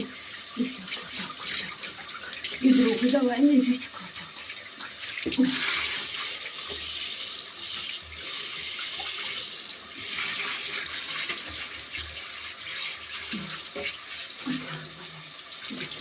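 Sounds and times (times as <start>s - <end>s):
tap water running and splashing: 0.0s - 16.0s.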